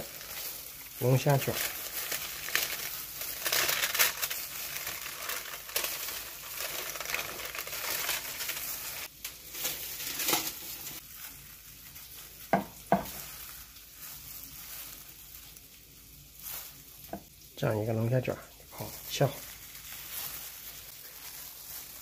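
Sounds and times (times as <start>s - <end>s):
aluminium foil crinkling: 0.0s - 22.0s.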